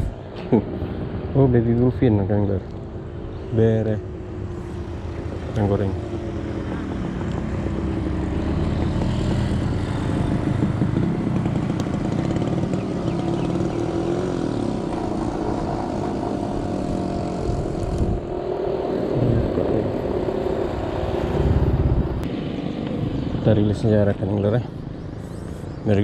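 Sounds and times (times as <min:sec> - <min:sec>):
small engine running: 0:04.8 - 0:25.8.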